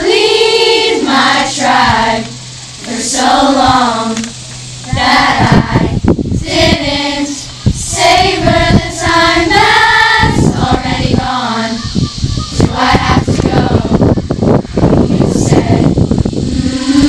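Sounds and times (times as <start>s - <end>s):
girls singing together: 0.0s - 17.0s.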